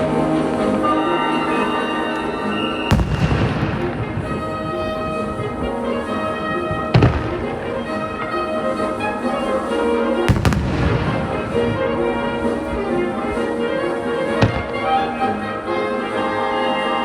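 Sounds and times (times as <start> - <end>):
fireworks bursting: 0.0 - 15.4
fireworks crackling: 0.0 - 15.8
orchestral music: 0.0 - 17.0.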